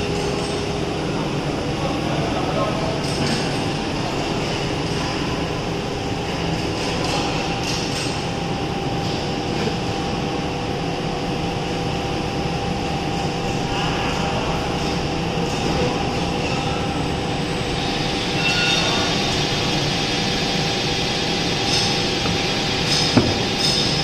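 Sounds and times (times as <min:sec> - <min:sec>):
conveyor mechanical drone: 0:00.0 - 0:24.0
thin steady whines: 0:00.0 - 0:24.0.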